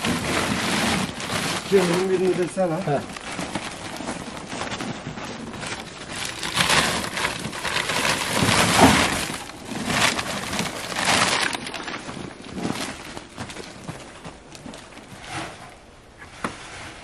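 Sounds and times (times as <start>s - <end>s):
plastic sacks rustling: 0.0s - 17.0s.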